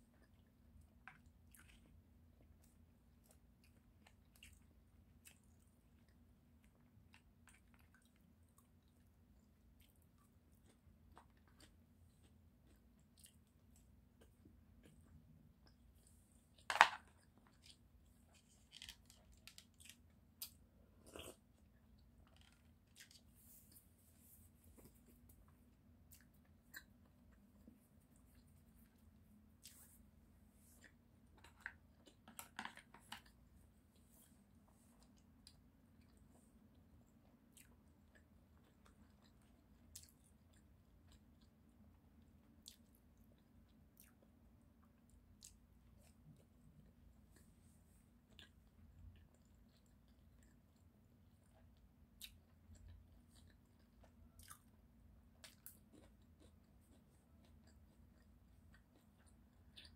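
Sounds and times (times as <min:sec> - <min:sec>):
soft chewing with wet smacks: 0:00.0 - 0:59.9.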